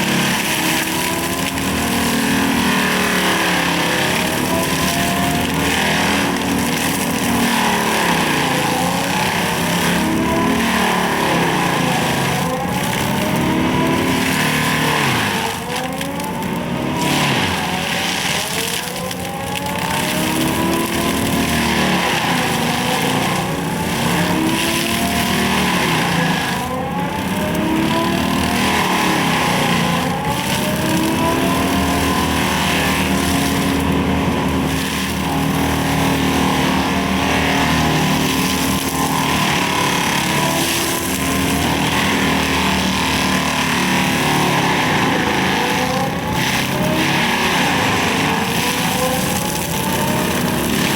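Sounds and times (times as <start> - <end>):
excavator mulcher grinding brush: 0.0 - 50.9.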